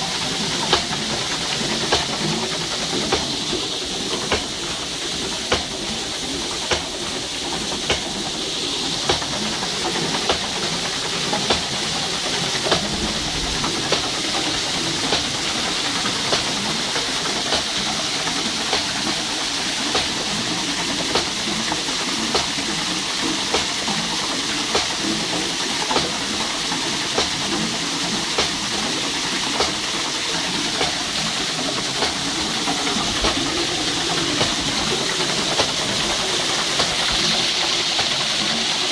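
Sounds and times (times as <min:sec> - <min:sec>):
rhythmic knocking clicks: 0:00.0 - 0:38.9
water splashing on water wheel: 0:00.0 - 0:38.9.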